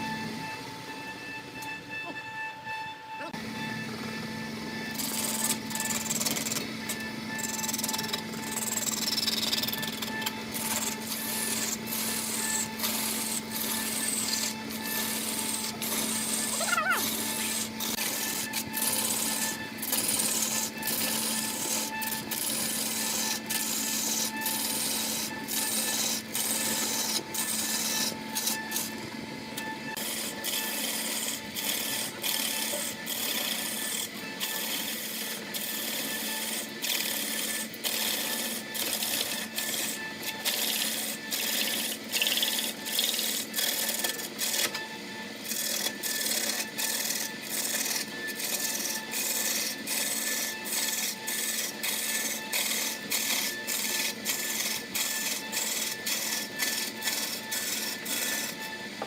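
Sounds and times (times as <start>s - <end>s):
wood lathe humming: 0.0s - 59.0s
tool hissing against spinning wood: 4.7s - 59.0s.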